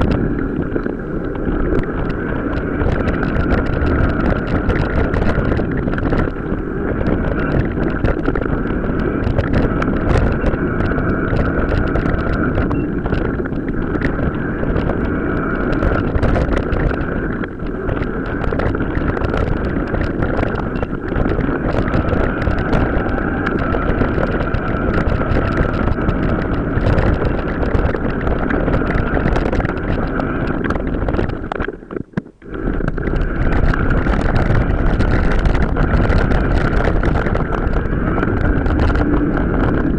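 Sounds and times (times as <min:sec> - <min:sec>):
bike clattering and rattling: 0:00.0 - 0:39.9
wind rushing over microphone: 0:00.0 - 0:39.9.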